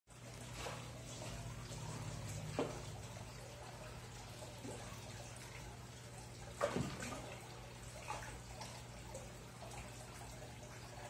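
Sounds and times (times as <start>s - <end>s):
low steady hum: 0.1s - 11.0s
fish splashing at water surface: 0.3s - 11.0s.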